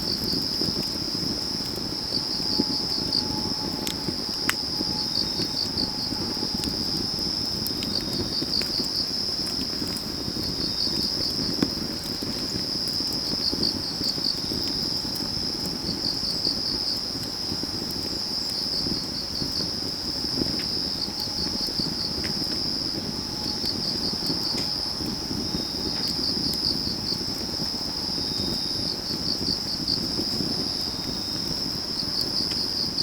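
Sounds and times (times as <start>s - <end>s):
crackling wood fire: 0.0s - 33.0s
cricket trilling: 0.0s - 33.0s
insect chirping in pulsed runs: 0.0s - 33.0s.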